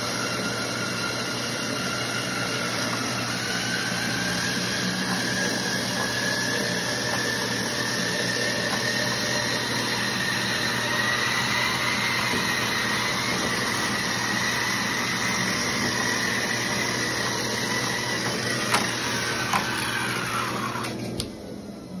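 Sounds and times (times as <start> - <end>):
treadmill motor whine: 0.0 - 22.0.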